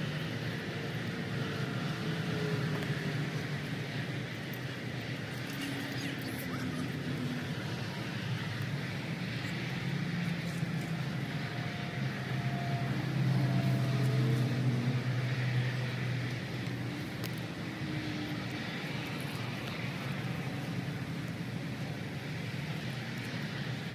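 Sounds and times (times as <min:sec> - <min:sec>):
low vehicle rumble: 0:00.1 - 0:23.9.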